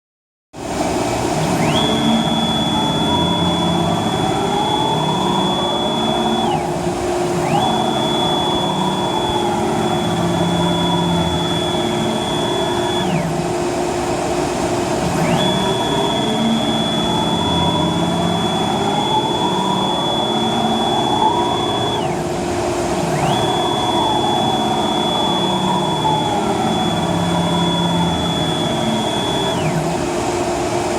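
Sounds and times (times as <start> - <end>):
high motor whine: 0.6 - 30.9
router gantry rough running noise: 0.7 - 30.9.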